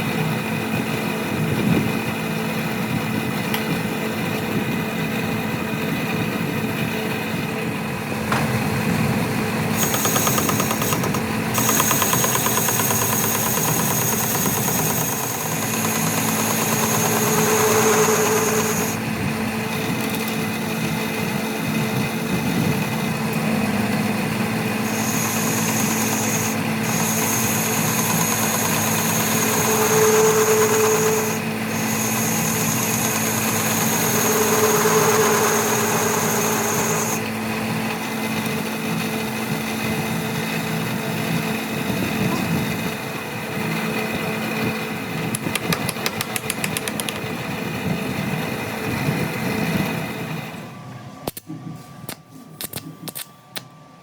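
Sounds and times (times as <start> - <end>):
machine humming: 0.1 - 45.4.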